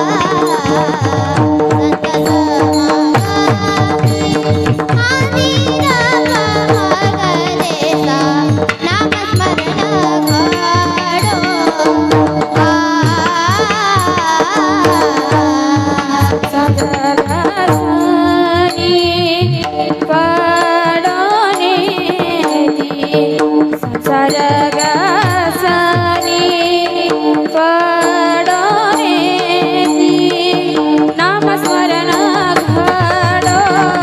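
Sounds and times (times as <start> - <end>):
girls singing devotional song: 0.0 - 34.0
tabla beat: 0.0 - 34.0.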